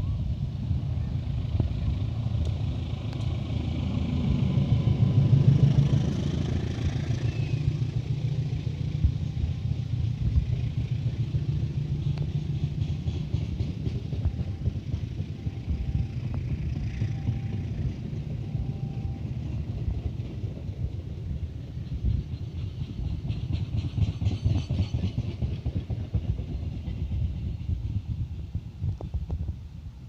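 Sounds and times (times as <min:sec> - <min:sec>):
locomotive rumbling: 0:00.0 - 0:30.0.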